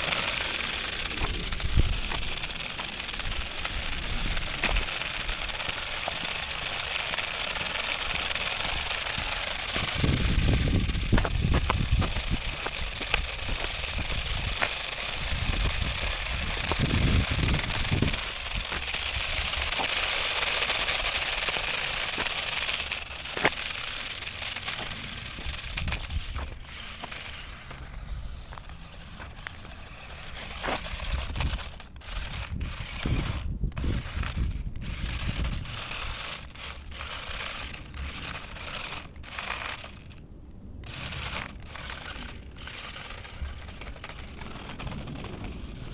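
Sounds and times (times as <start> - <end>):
scattered clicks: 0.0 - 40.2, 40.8 - 45.9
toy car electric motors hissing: 0.0 - 40.2, 40.8 - 45.9
low rumbling bursts: 0.0 - 45.9.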